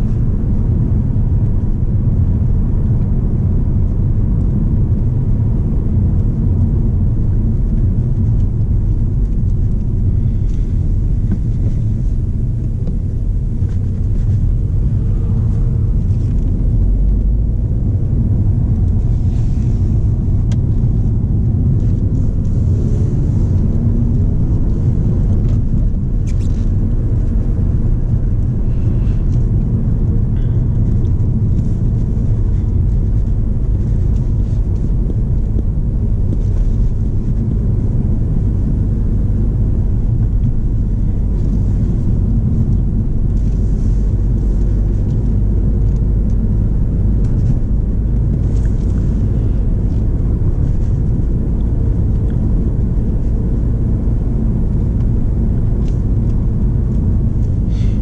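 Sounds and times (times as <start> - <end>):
diesel engine running: 0.0 - 58.0
road and tyre noise: 0.0 - 58.0.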